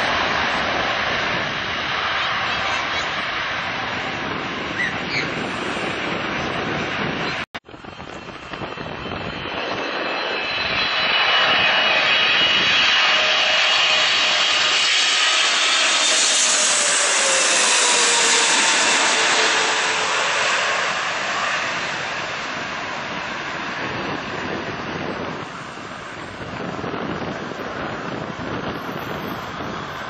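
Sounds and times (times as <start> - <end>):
jet engines roaring overhead: 0.0 - 30.0.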